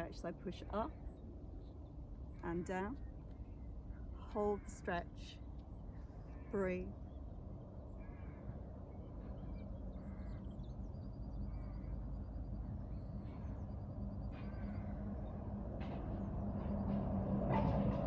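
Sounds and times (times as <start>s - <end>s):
small birds chirping: 0.0s - 15.5s
constant low hum: 0.0s - 18.0s.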